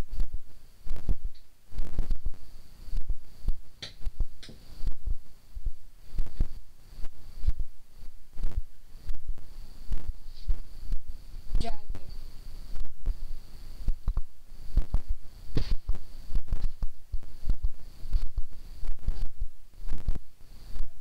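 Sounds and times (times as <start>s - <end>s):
dull low thumps: 0.0s - 12.1s, 12.7s - 21.0s.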